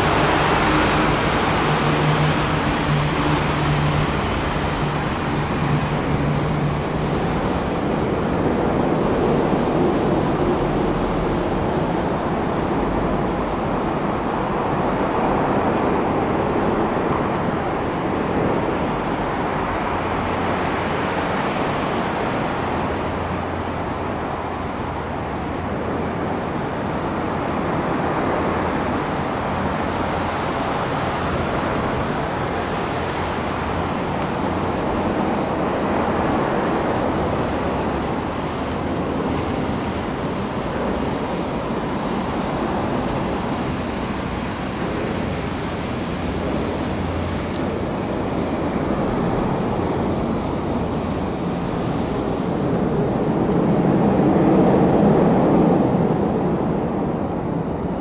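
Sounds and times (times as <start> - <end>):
city road traffic: 0.0 - 58.0.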